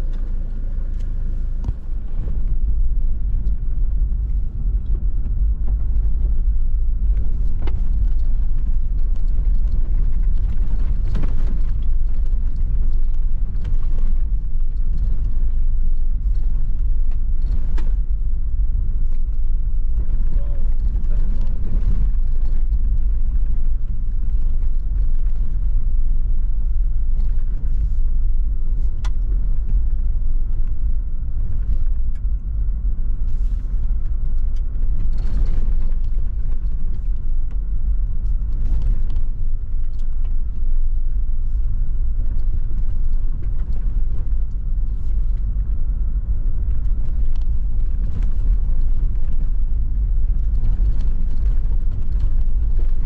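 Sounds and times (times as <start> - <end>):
vehicle rumbling on dirt track: 0.0 - 53.0.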